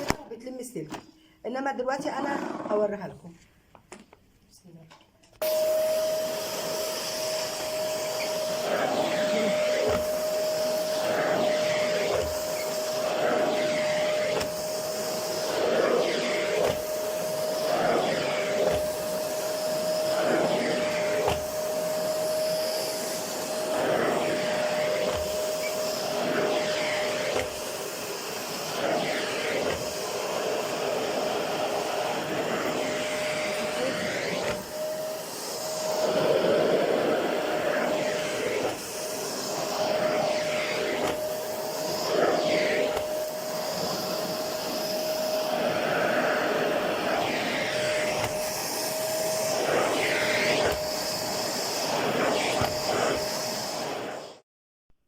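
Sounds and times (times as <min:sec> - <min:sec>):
vacuum cleaner running: 0:00.0 - 0:00.7, 0:01.8 - 0:03.0, 0:05.4 - 0:54.4.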